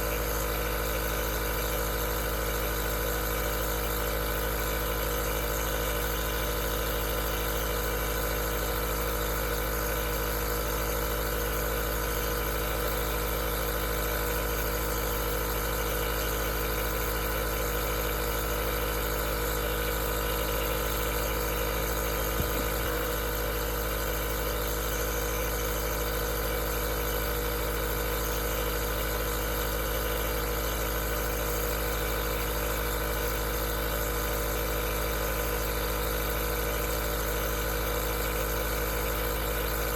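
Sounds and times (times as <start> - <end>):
nebulizer motor hum: 0.0 - 39.9.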